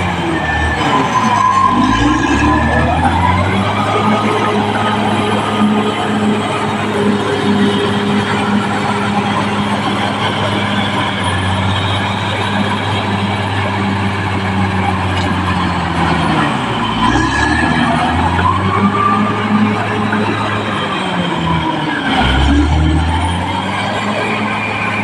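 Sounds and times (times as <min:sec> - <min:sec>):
bulldozer diesel engine: 0:00.0 - 0:25.0.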